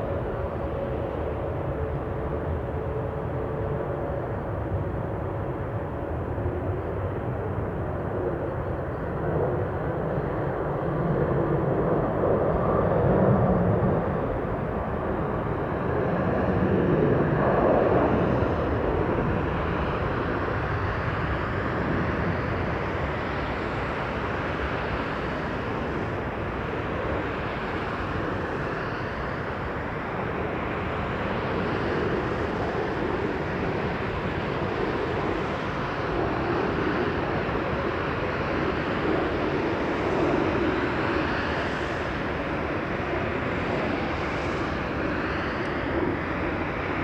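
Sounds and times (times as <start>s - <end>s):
jet airliner engine rumble: 0.0s - 47.0s.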